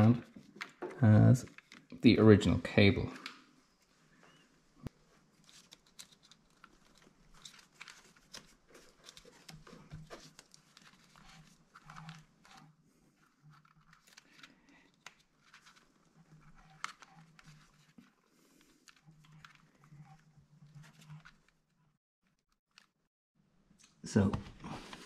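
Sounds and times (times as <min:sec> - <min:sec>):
wiring harness rustling and clicking: 0:00.0 - 0:02.0, 0:03.0 - 0:23.1.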